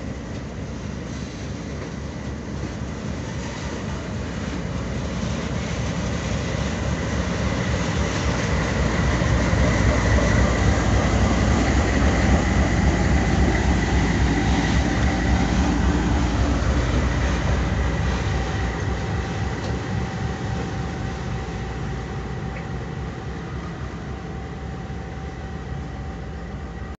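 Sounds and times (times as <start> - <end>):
locomotive and train rumble: 0.0 - 27.0
locomotive high whine: 0.0 - 27.0.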